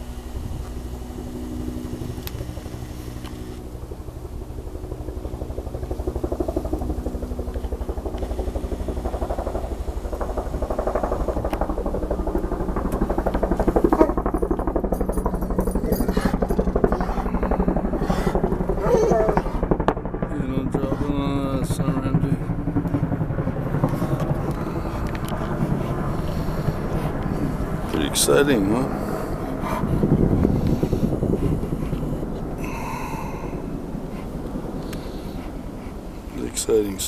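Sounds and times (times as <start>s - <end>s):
helicopter rotor thudding: 0.0s - 37.0s.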